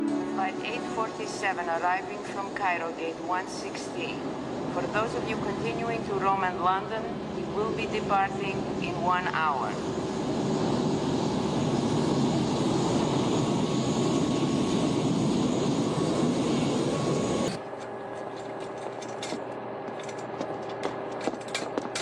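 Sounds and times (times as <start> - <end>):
airliner engine noise: 0.0 - 22.0.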